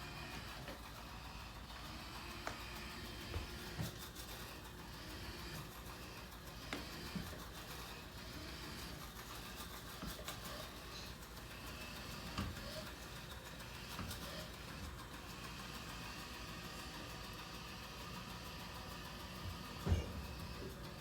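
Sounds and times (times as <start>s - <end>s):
robot vacuum humming: 0.0s - 21.0s.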